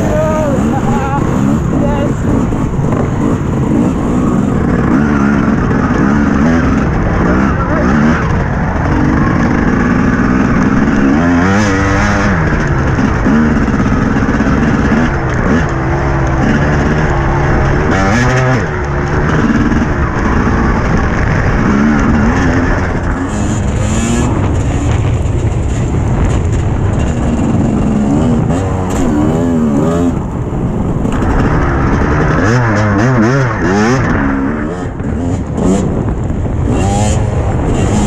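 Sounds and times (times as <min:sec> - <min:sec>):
dirt bike engine revving: 0:00.0 - 0:38.0
wind noise: 0:00.0 - 0:38.0.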